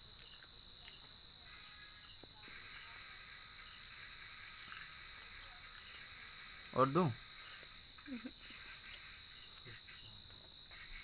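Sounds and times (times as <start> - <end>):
high-pitched insects trilling: 0.0 - 11.0
lower buzzy insect chorus: 0.0 - 11.0.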